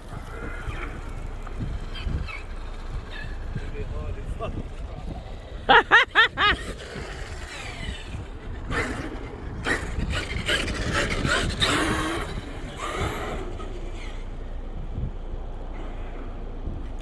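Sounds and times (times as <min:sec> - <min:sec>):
rc truck motor and tyre surges: 0:00.0 - 0:17.0.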